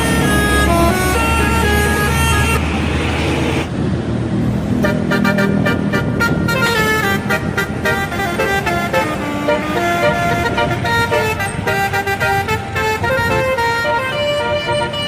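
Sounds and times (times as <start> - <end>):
bus air horn tune: 0.0 - 2.6, 4.8 - 15.0
low traffic rumble: 0.0 - 15.0.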